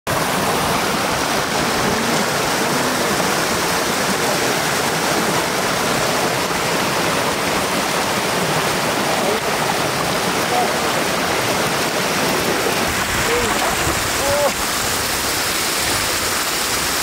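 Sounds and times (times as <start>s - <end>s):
floodwater rushing: 0.1s - 17.0s.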